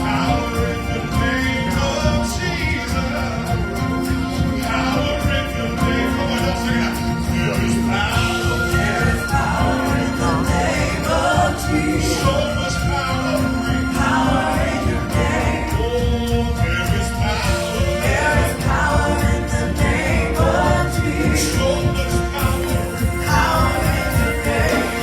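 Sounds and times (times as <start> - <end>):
gospel choir singing: 0.0 - 25.0
instrumental accompaniment: 0.0 - 25.0.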